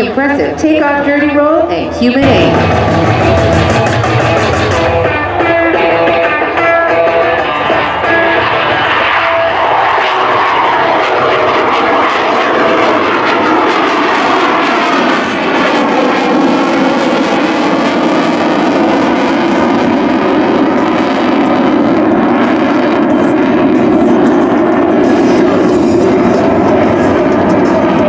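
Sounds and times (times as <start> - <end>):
jet engines roaring overhead: 0.0 - 28.0.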